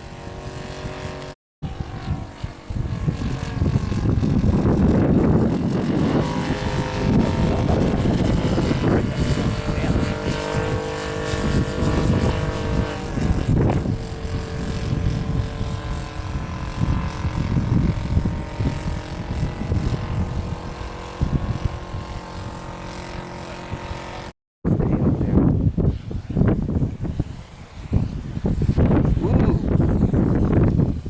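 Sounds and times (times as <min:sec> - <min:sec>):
model plane engine droning: 0:00.0 - 0:31.0
wind buffeting microphone: 0:00.0 - 0:31.0.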